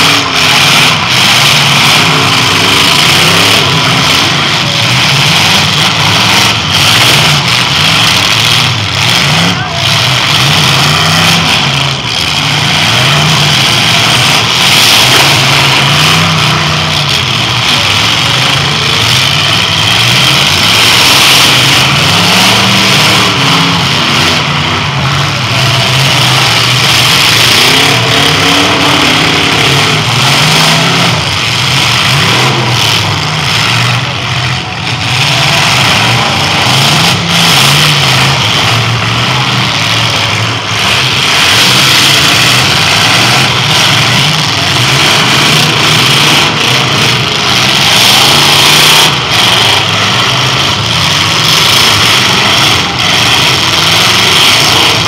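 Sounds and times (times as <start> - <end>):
car engines revving: 0.0 - 55.0
rough steady din: 0.0 - 55.0.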